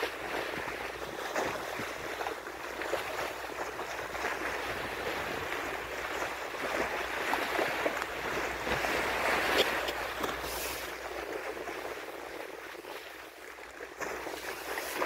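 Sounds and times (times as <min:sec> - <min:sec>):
sea water rushing along bow: 0:00.0 - 0:15.0.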